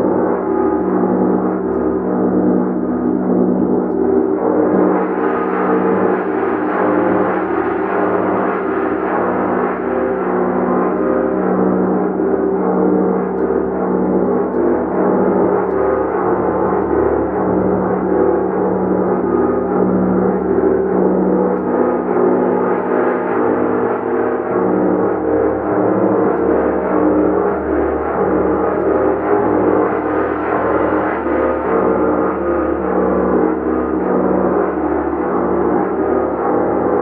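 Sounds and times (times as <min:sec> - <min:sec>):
gong ringing continuously: 0:00.0 - 0:37.0
low humming drone: 0:00.0 - 0:37.0.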